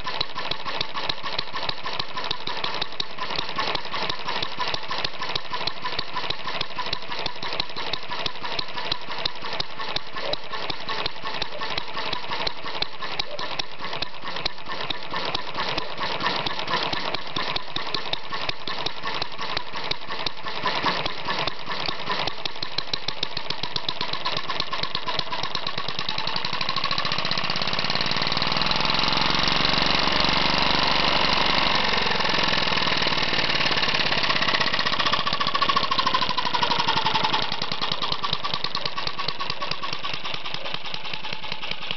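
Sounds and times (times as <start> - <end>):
small engine running: 0.0 - 41.9.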